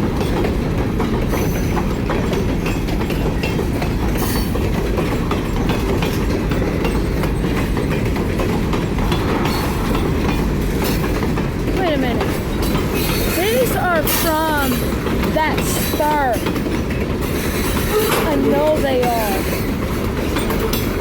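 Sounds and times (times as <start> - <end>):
freight cars rumbling past: 0.0 - 21.0
wheels clacking over rail joints: 0.0 - 21.0.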